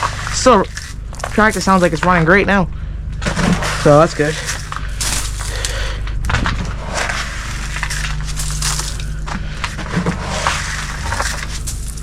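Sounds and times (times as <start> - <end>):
crunching of rock salt and ice: 0.0 - 2.4, 3.2 - 12.0.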